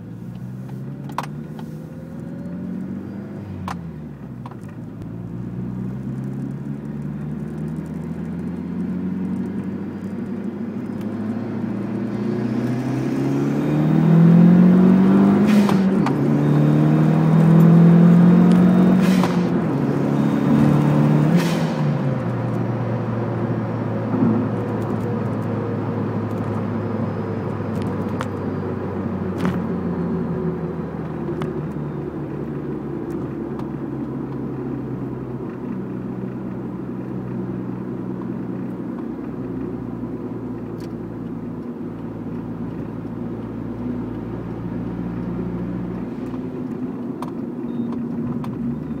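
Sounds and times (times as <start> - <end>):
car engine running: 0.0 - 49.0.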